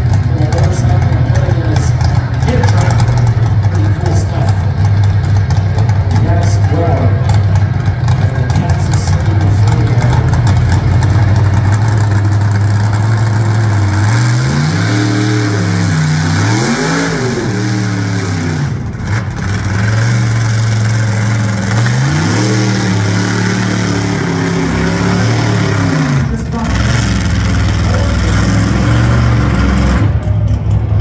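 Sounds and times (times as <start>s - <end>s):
truck engine revving high: 0.0s - 31.0s.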